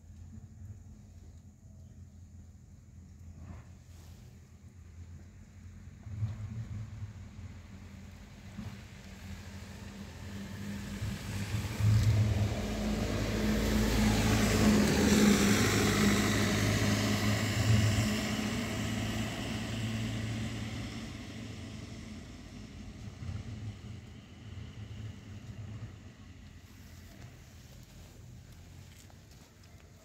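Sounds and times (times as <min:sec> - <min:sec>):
motor vehicle passing by: 0:05.9 - 0:30.0.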